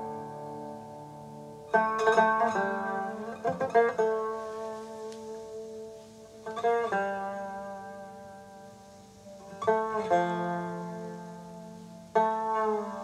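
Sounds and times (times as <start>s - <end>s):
plucked long-necked lute: 0.0s - 13.0s.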